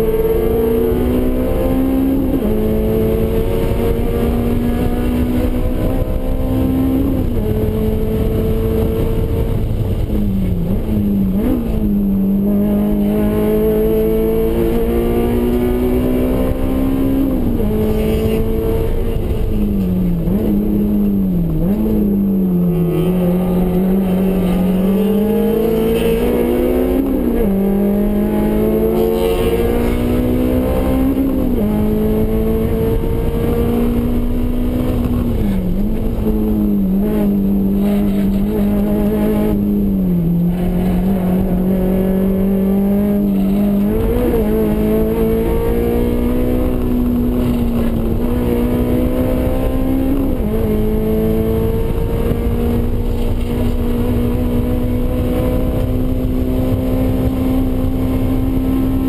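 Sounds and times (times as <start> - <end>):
car engine revving and shifting: 0.0 - 59.0
wind and tyre noise: 0.0 - 59.0.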